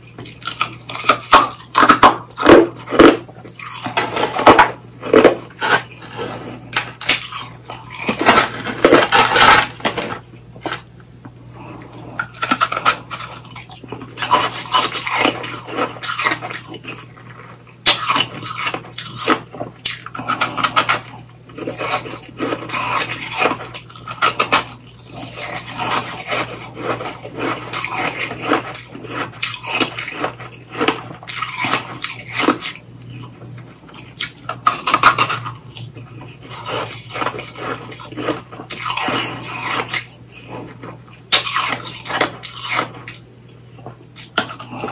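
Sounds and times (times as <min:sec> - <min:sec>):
crunching and chewing ice popsicle: 0:00.0 - 0:44.9.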